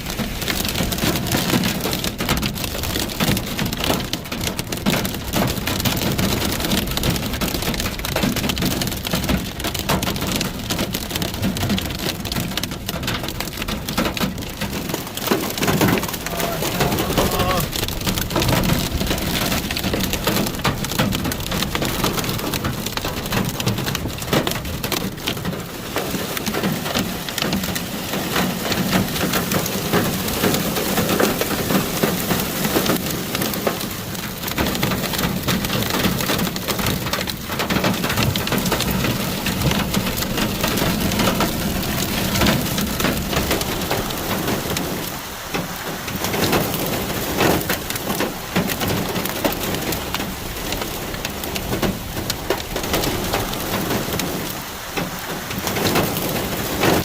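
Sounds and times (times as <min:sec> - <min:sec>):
hailstones clicking: 0:00.0 - 0:57.0
heavy rain patter: 0:00.0 - 0:57.0.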